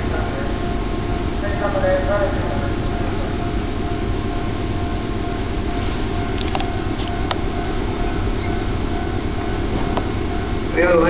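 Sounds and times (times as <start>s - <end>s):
distant approaching train: 0.0s - 11.0s.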